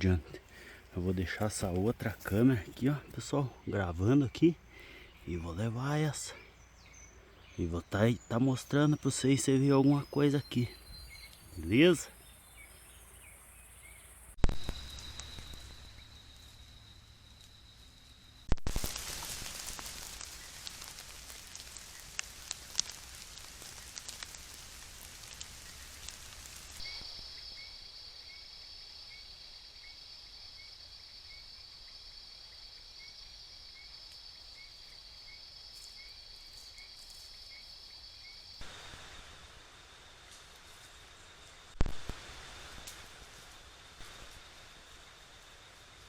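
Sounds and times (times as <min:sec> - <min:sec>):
hiss with ticks and pops: 0:00.3 - 0:03.4, 0:09.8 - 0:13.3, 0:14.2 - 0:46.0.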